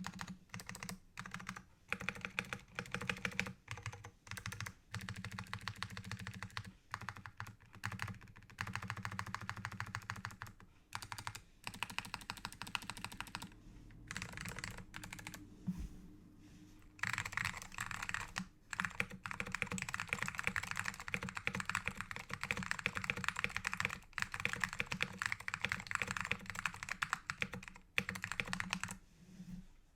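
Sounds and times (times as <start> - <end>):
mechanical keyboard typing: 0.0 - 13.5, 14.1 - 15.4, 17.0 - 29.0.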